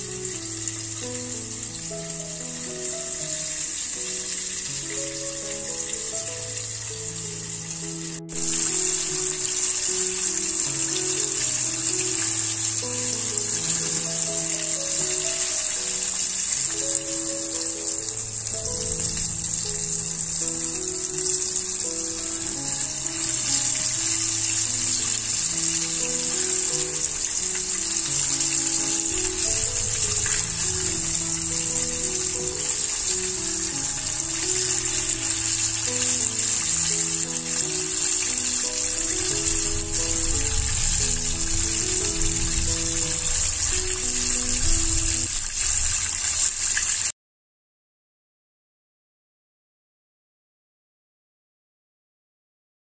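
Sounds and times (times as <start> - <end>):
slow background music: 0.0 - 45.6
chicken sizzling in hot oil: 0.0 - 47.2.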